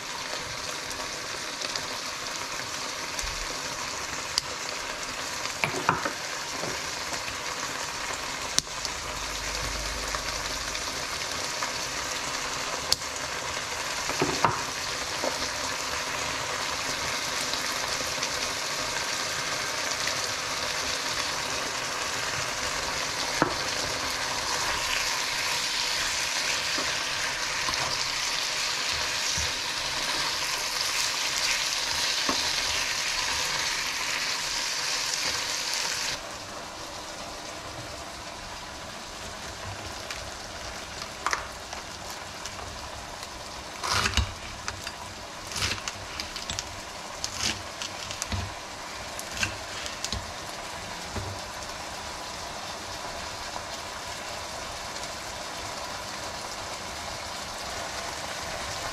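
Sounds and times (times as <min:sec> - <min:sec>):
food sizzling in a frying pan: 0:00.0 - 0:58.9.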